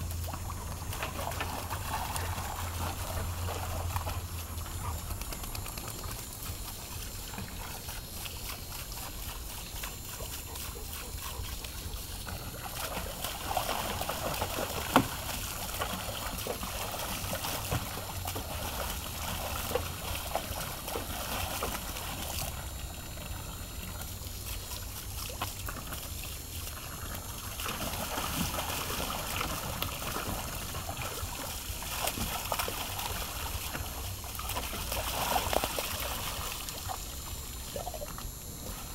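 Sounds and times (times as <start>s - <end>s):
dog splashing water: 0.0s - 38.9s
hose water trickling into pool: 0.0s - 38.9s.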